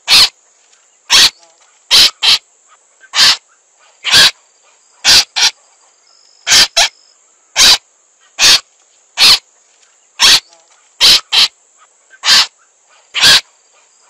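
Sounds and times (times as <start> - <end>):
crake harsh calls: 0.0 - 5.6, 6.3 - 14.0.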